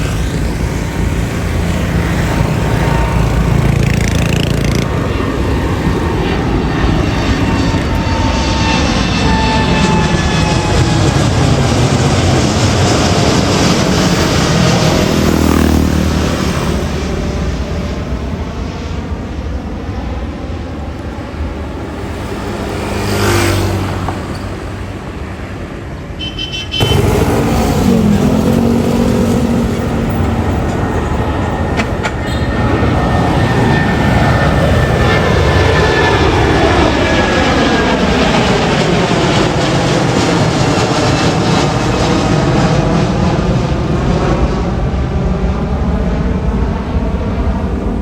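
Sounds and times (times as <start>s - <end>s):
jet airliner engines at takeoff: 0.0s - 48.0s.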